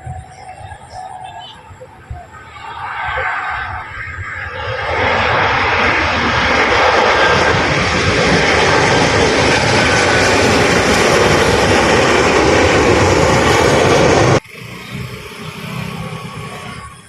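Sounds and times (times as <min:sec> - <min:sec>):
airliner engines passing: 0:00.0 - 0:17.0.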